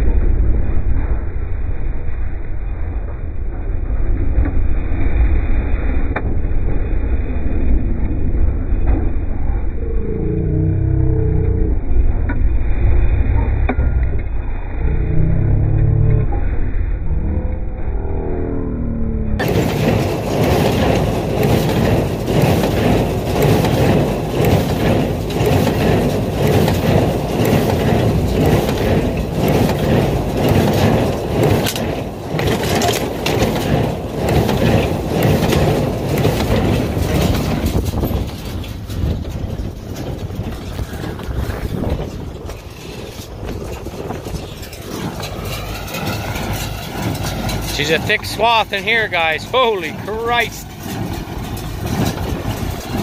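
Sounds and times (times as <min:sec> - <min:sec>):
tractor engine and baler running: 0:00.0 - 0:53.0.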